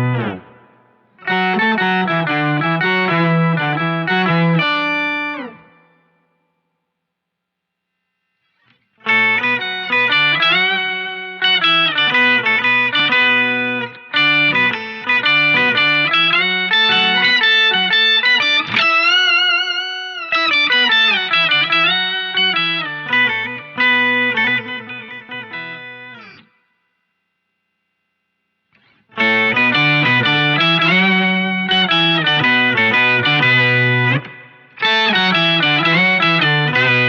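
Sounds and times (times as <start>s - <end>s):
electric guitar with octave effect: 0.0s - 6.8s, 8.0s - 27.1s, 28.6s - 37.0s.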